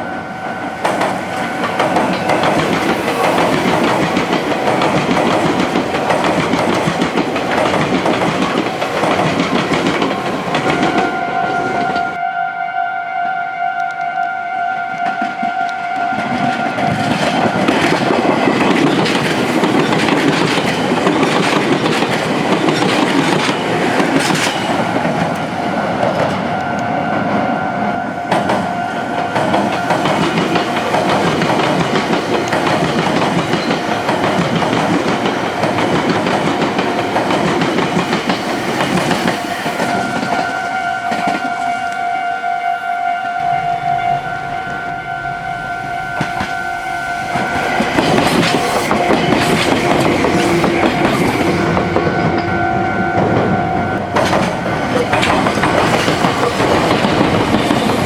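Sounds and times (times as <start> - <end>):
crossing warning bell ringing: 0.0 - 58.0
electric train passing: 0.0 - 58.0
wheels clacking over rail joints: 0.8 - 12.2, 16.2 - 27.3, 28.3 - 42.0, 46.2 - 58.0.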